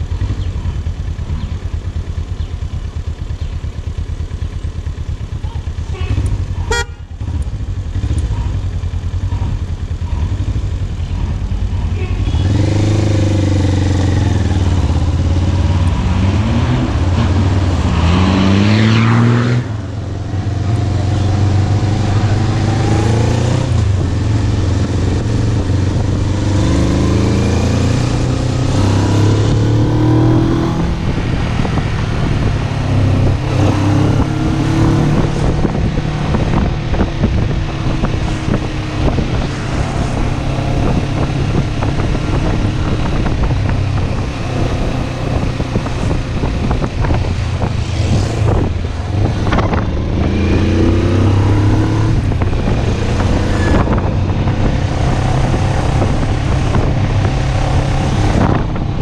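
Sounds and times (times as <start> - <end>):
motorcycle engine accelerating: 0.0 - 59.0
wind noise on microphone: 8.3 - 59.0.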